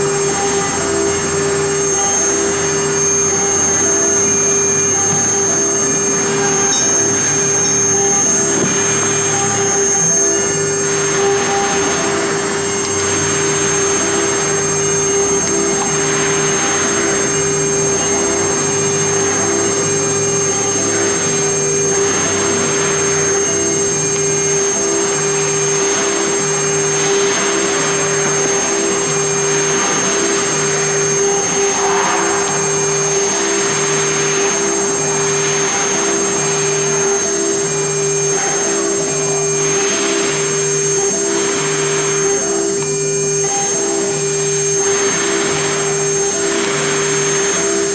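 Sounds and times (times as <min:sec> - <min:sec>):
low pulsing tone: 0:00.0 - 0:45.2
engraving machine spindle whine: 0:00.0 - 0:47.9.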